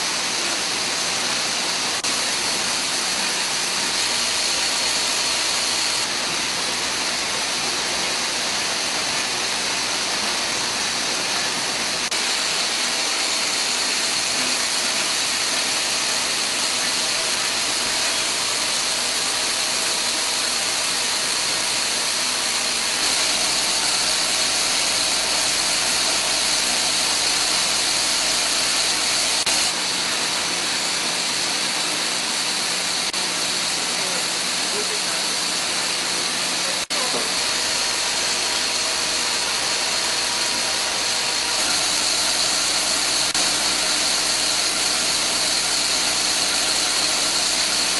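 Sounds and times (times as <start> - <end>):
industrial machinery hiss: 0.0 - 47.9.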